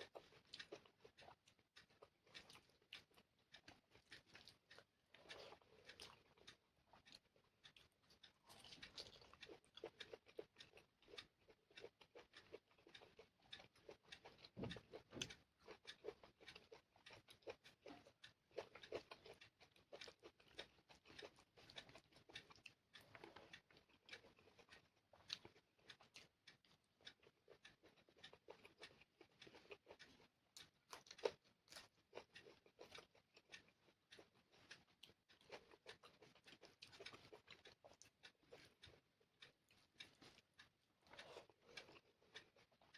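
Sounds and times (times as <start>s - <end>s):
person chewing and smacking: 0.0s - 42.9s.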